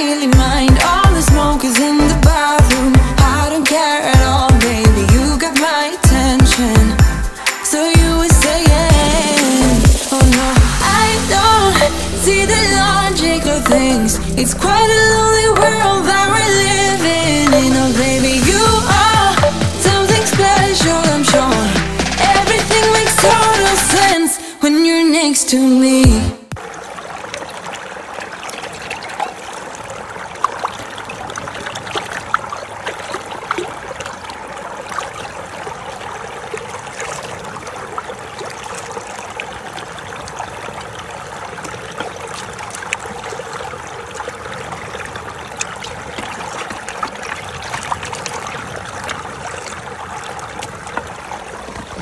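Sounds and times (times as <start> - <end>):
running water trickling: 0.0 - 24.5, 25.9 - 52.0.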